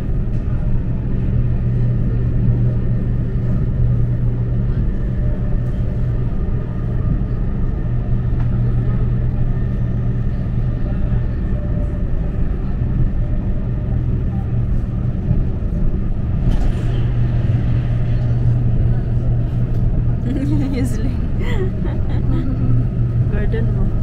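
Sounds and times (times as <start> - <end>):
passenger train rumbling on track: 0.0 - 24.0.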